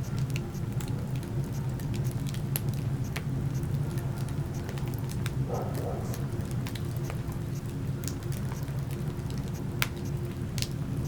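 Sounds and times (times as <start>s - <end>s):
fireplace fire crackling: 0.0s - 11.0s
low fire rumble: 0.0s - 11.0s.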